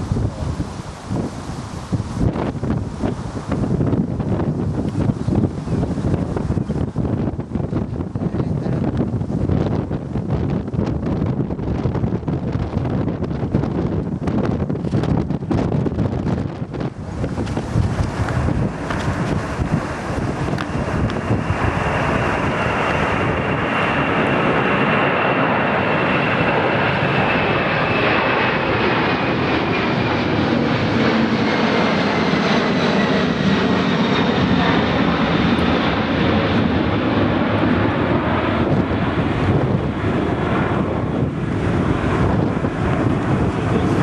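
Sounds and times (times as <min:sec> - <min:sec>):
jet engines roaring at takeoff: 0:00.0 - 0:44.0.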